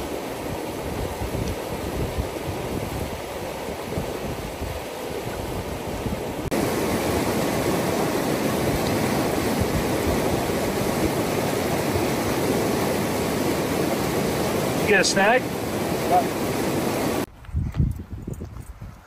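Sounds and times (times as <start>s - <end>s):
river rapids rushing over boulders: 0.0s - 17.3s.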